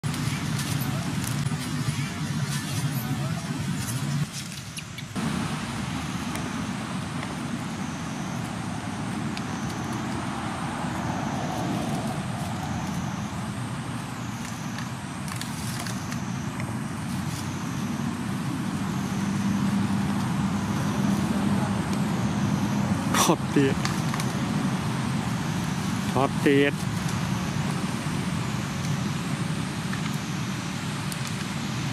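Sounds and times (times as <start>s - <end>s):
distant motor traffic rumble: 0.0s - 31.9s.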